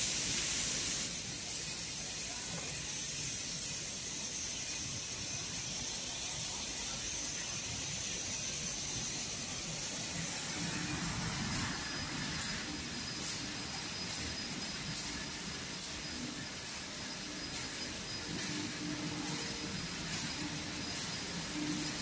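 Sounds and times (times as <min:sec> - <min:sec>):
sanding machines hissing and humming: 0:00.0 - 0:22.0.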